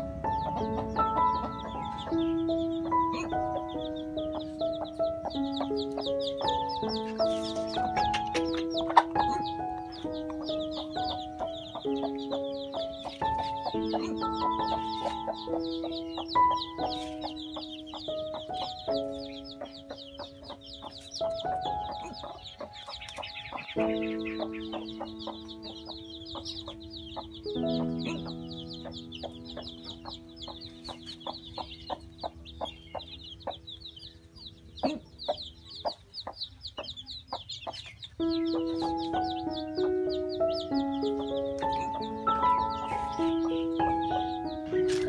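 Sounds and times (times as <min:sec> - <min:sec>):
chicks peeping: 0:00.0 - 0:45.0
slow background music: 0:00.0 - 0:45.0.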